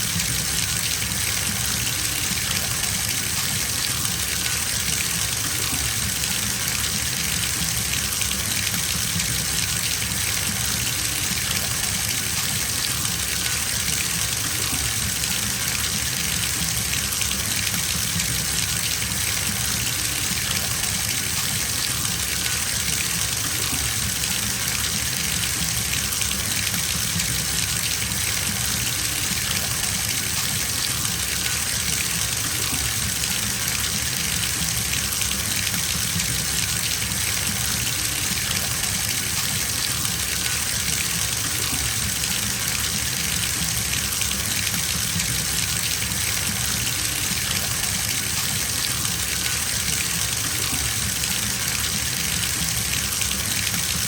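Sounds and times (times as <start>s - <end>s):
tap water filling bathtub: 0.0s - 54.0s.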